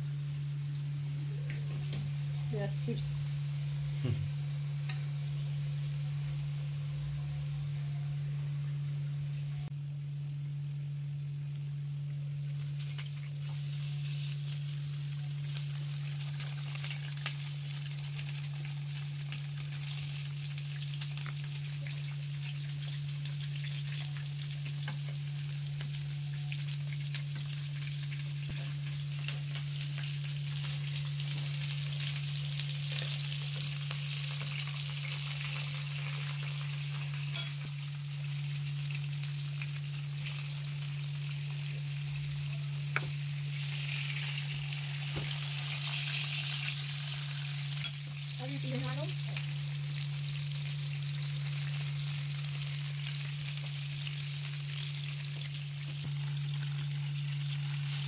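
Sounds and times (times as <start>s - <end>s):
low hum: 0.0s - 55.2s
food sizzling in grill pan: 0.0s - 58.0s.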